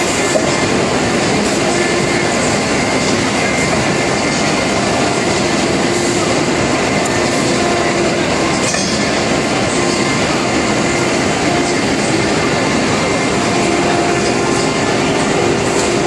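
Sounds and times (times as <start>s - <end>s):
cnc router machine noise: 0.0s - 16.0s.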